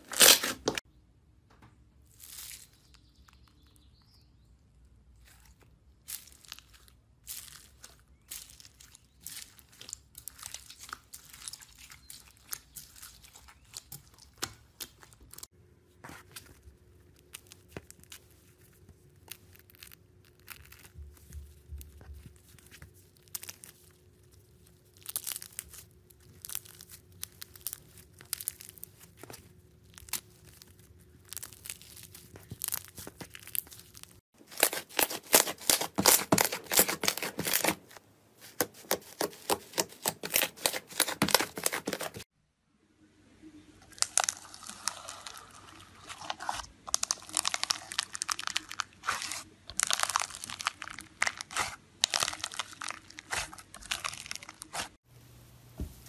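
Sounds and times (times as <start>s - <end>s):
bead slime crunching: 0.0s - 0.8s, 2.0s - 3.9s, 5.1s - 15.5s, 16.3s - 42.3s, 43.9s - 55.0s
slime crackling and popping: 5.2s - 15.5s, 17.0s - 42.2s, 43.9s - 45.4s, 46.2s - 55.0s.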